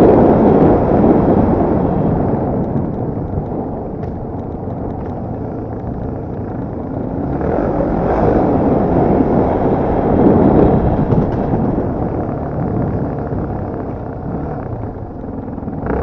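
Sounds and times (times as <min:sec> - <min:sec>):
dirt bike engine running: 0:00.0 - 0:16.0
wind noise on microphone: 0:00.0 - 0:16.0.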